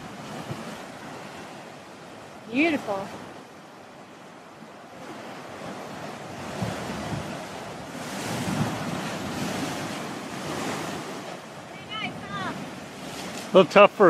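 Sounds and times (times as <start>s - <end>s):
surf breaking on a beach: 0.0s - 14.0s
wind buffeting microphone: 0.0s - 14.0s.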